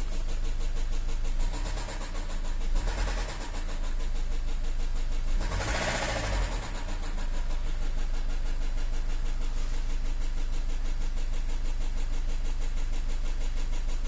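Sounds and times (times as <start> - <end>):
diesel engine running: 0.0 - 14.0
fast knock inside engine: 0.0 - 14.0.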